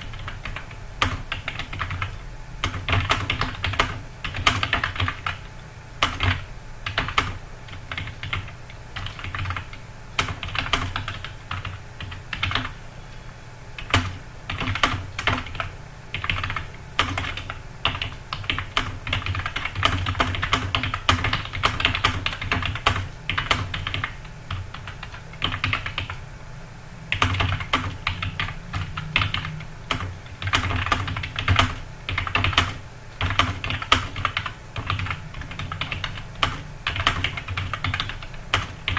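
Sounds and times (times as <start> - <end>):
fast keyboard typing: 0.0 - 12.8, 13.8 - 26.2, 27.1 - 38.9.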